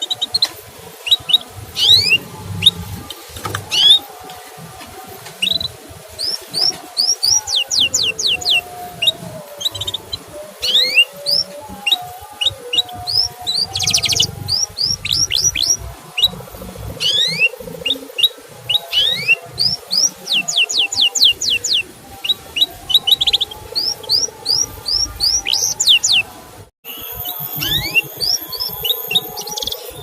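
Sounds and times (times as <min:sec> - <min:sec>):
canary chirping: 0:00.0 - 0:26.3, 0:26.9 - 0:30.0.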